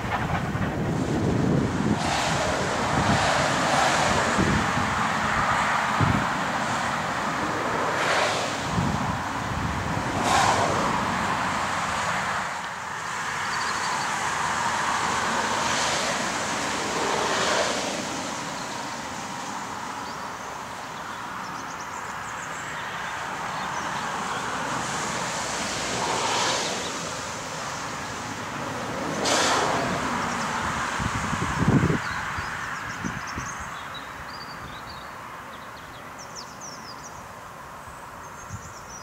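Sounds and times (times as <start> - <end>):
wind gusts on microphone: 0.0 - 21.7, 23.1 - 35.0.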